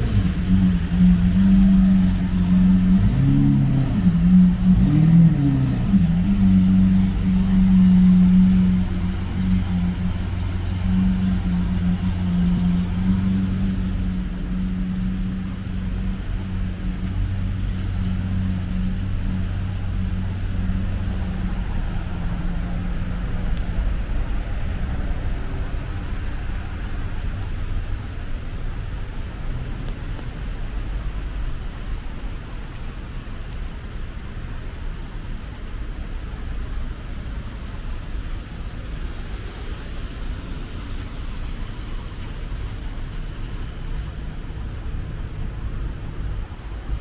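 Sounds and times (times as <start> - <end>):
tyres hissing on wet road: 0.0 - 47.0
vehicle engine humming: 0.0 - 47.0.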